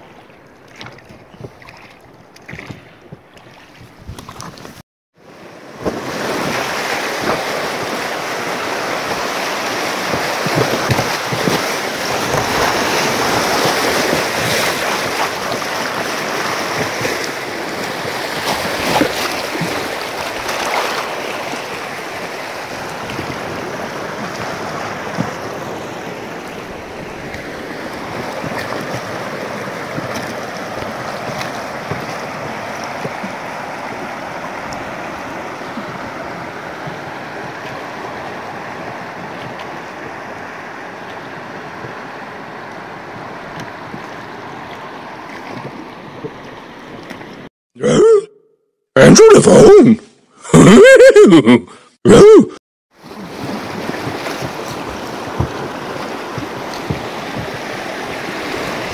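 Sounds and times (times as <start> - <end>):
river water rushing through rapids: 5.2 - 47.5, 53.0 - 58.9.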